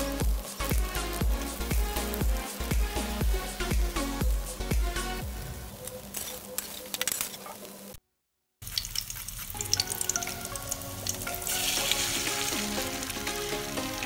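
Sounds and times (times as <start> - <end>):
egg and onion sizzling in oil: 0.0 - 8.0, 8.6 - 14.0.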